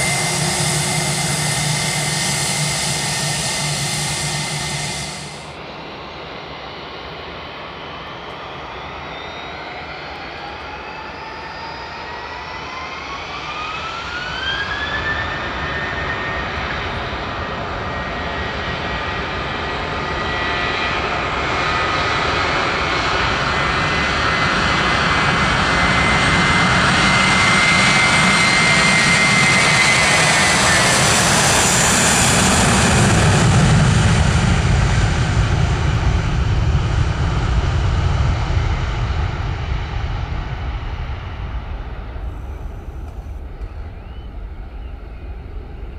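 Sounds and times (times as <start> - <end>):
jet engines spooling up: 0.0 - 45.9
jet takeoff roll rumble: 0.0 - 45.9.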